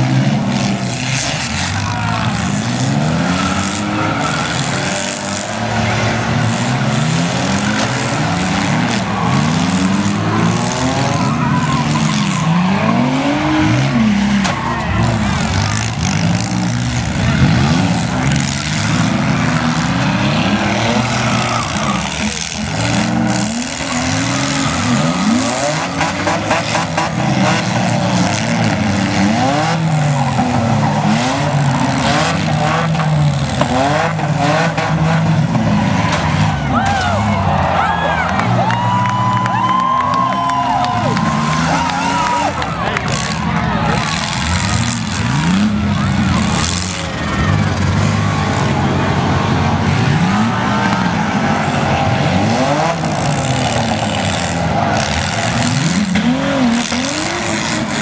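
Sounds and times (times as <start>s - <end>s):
car engines revving hard: 0.0s - 58.0s
cars banging into each other: 0.1s - 39.4s, 40.5s - 58.0s.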